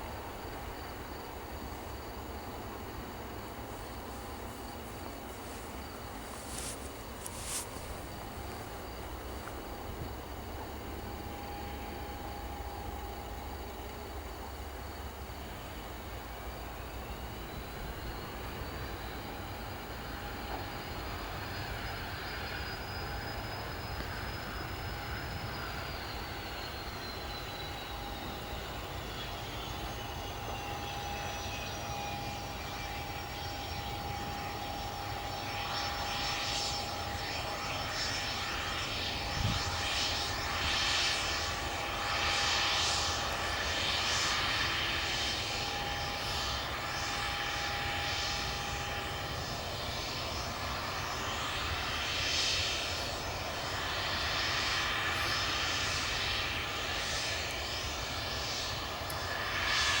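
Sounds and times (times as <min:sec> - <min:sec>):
jet engine whine: 0:00.0 - 1:00.0
wavering jet rush: 0:00.0 - 1:00.0.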